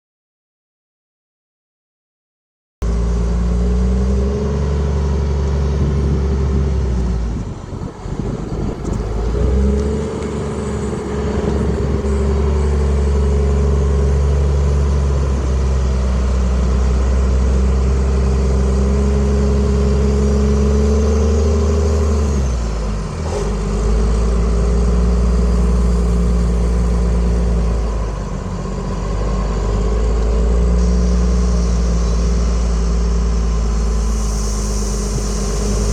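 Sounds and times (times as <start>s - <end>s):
diesel engine running: 2.8s - 35.9s.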